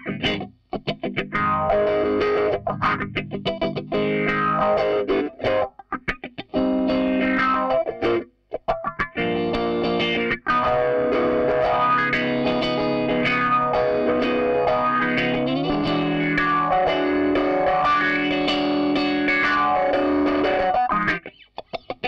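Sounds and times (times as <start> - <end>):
overdriven electric guitar chords: 0.0 - 22.0.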